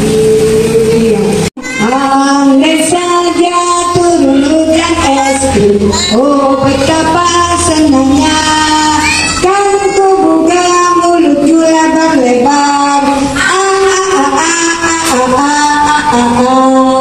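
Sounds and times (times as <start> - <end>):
high voice singing: 0.0 - 17.0.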